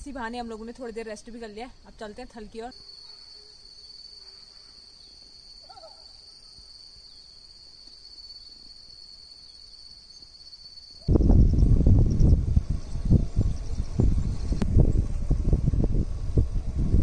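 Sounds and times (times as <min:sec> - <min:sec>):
insect chorus: 0:00.0 - 0:16.8.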